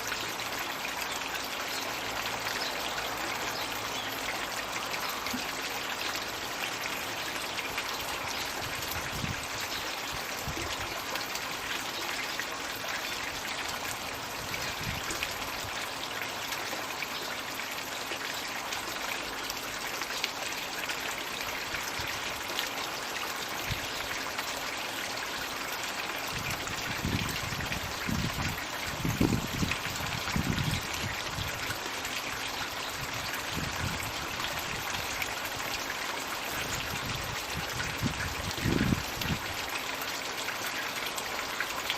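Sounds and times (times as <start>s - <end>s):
water trickling and splashing: 0.0s - 41.9s.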